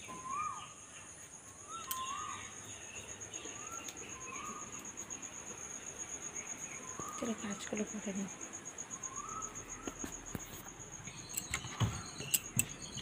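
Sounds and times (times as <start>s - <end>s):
bird calling: 0.0s - 13.0s
high-pitched insect trill: 0.0s - 13.0s.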